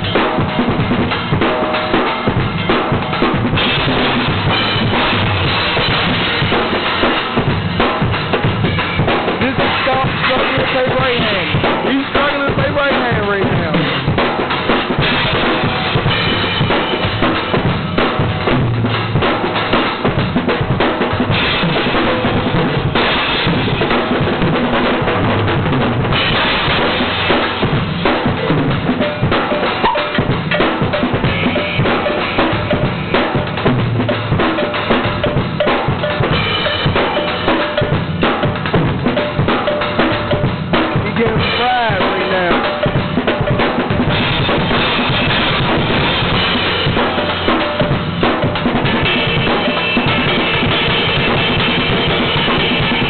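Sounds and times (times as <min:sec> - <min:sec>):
drum kit solo: 0:00.0 - 0:53.0.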